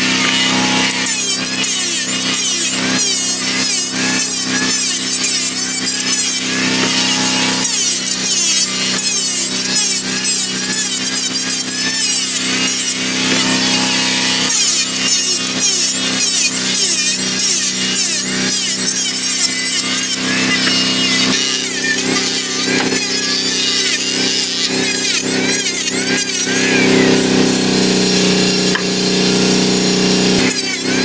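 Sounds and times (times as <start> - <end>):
electric planer shaving timber: 0.0 - 31.0.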